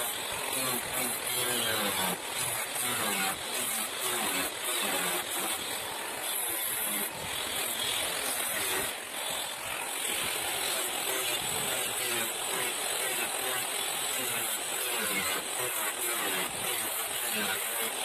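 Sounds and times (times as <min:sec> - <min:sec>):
angle grinder cutting sheet steel: 0:00.0 - 0:18.0.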